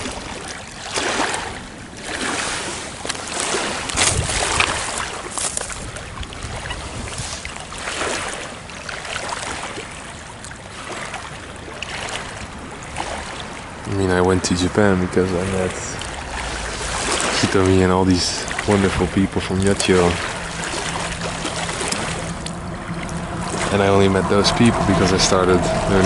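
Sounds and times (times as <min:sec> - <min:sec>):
small waves on pebbly shore: 0:00.0 - 0:25.1
wind: 0:00.0 - 0:26.0.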